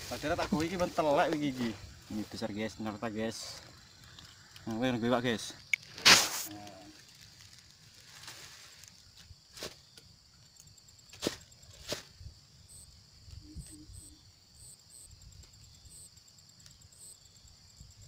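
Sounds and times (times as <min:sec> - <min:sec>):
insects calling: 0:00.0 - 0:18.0.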